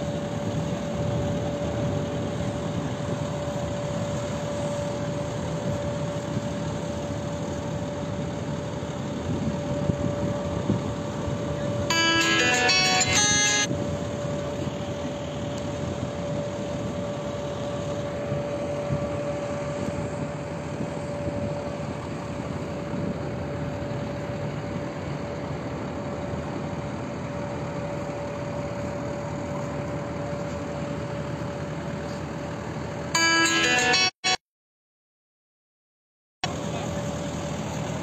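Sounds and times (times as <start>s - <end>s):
engine running with whine: 0.0s - 34.4s, 36.4s - 38.0s.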